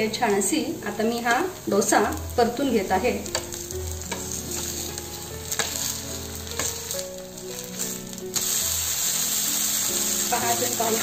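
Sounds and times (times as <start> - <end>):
dosa sizzling in oil: 0.2 - 11.0.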